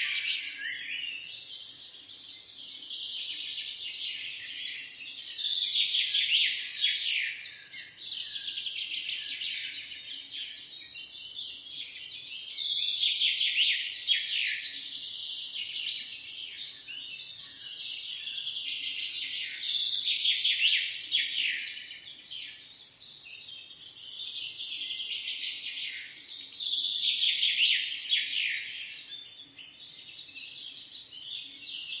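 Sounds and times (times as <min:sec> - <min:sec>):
songbirds chirping and twittering: 0:00.0 - 0:32.0.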